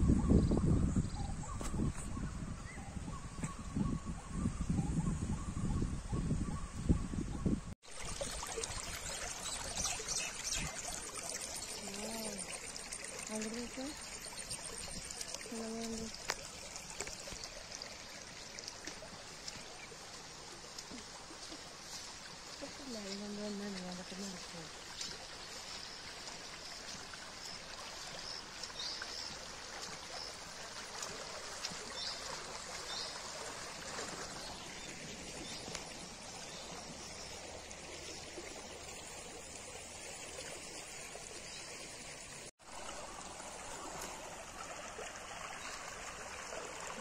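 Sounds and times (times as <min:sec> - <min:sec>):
floodwater rushing along channel: 0:07.8 - 0:47.0.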